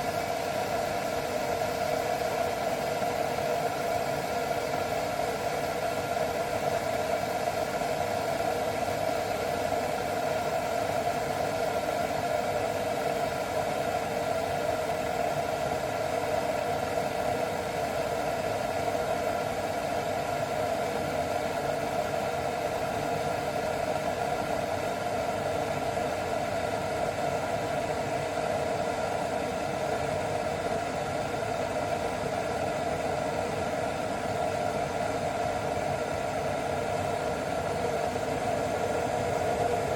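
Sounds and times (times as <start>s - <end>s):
electric kettle heating water: 0.0s - 39.9s.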